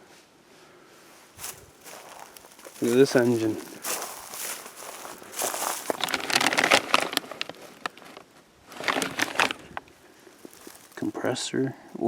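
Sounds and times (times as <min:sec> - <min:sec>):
footsteps crunching on rough ground: 0:01.1 - 0:11.4.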